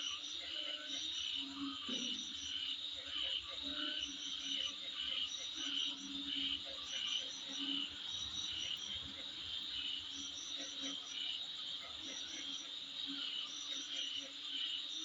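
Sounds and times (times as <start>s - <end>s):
fainter lower insect calls: 0.0s - 15.0s
insects trilling and chirping: 0.0s - 15.0s.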